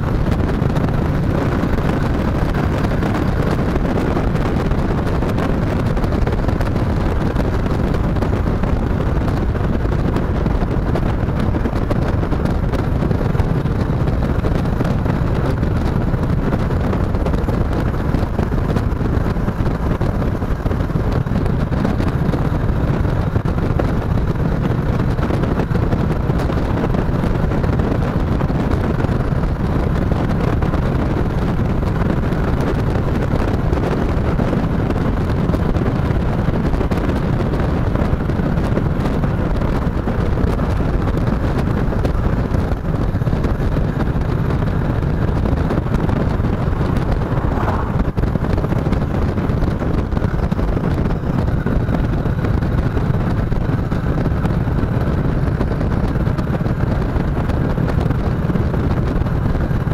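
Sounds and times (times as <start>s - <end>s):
motorcycle cruising: 0.0s - 59.9s
wind on microphone: 0.0s - 59.9s.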